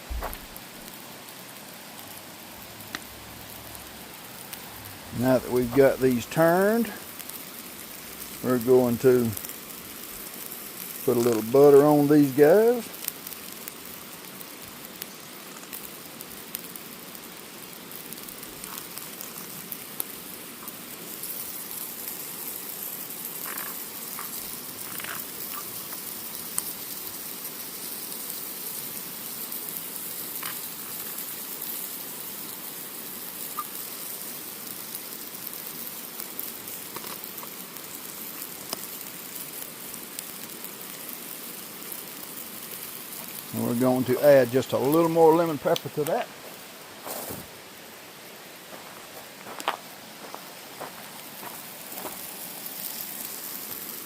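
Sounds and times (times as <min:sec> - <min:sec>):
small crackles and pops: 0:00.0 - 0:47.3, 0:48.7 - 0:54.0
fish sizzling on a grill: 0:00.0 - 0:54.0.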